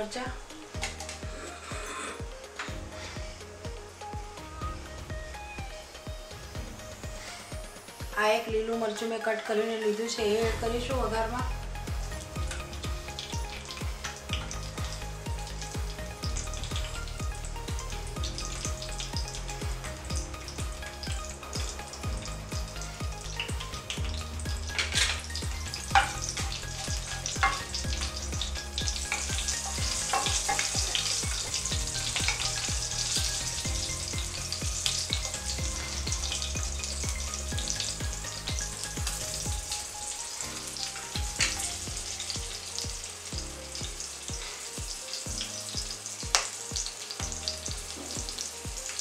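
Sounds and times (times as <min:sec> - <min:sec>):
spices sizzling in hot oil: 0:00.0 - 0:49.0.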